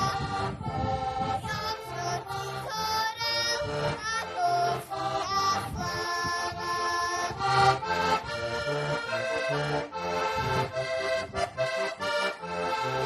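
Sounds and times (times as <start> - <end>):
button accordion folk tune: 0.0 - 13.0.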